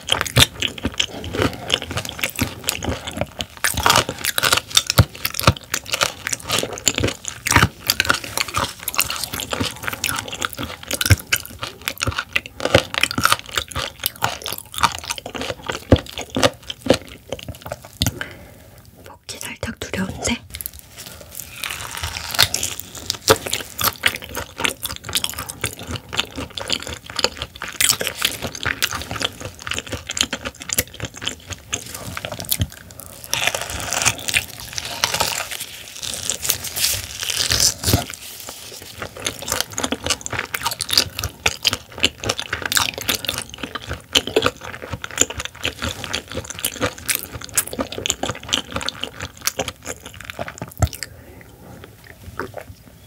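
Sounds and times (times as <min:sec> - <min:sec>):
wet chewing and mouth sounds: 0:00.0 - 0:53.0.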